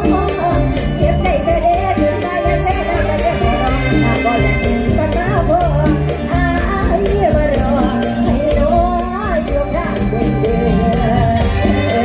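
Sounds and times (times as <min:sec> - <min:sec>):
amplified band: 0:00.0 - 0:12.0
steady percussion beat: 0:00.0 - 0:12.0
woman singing into microphone: 0:00.0 - 0:12.0.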